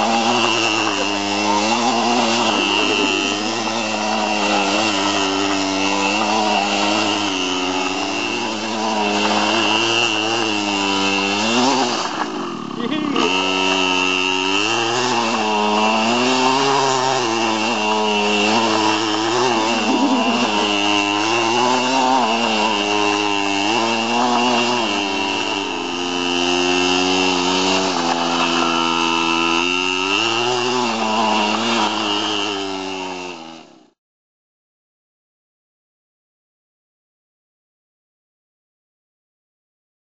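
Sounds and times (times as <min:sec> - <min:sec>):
mini motorbike engine revving: 0:00.0 - 0:34.0.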